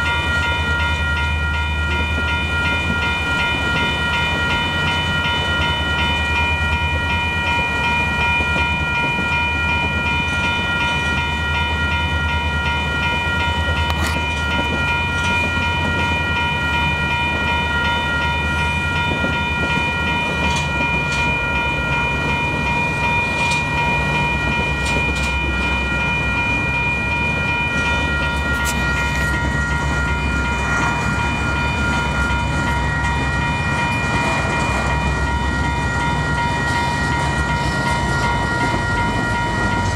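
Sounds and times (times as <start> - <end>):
diesel locomotives rumbling: 0.0 - 39.9
metallic clanks from train: 0.0 - 39.9
railroad crossing bells ringing: 0.0 - 39.9.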